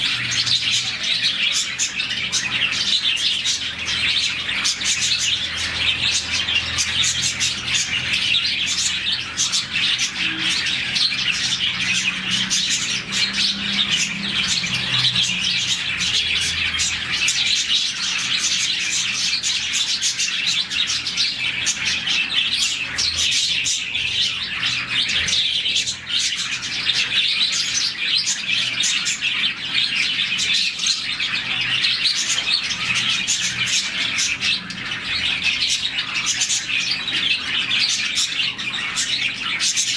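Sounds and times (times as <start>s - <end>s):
birds chirping chatter: 0.0s - 39.9s.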